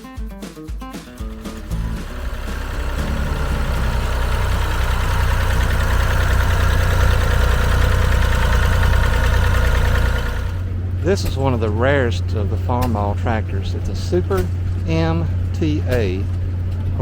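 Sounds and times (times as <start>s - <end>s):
tractor engine idling: 1.0s - 17.0s.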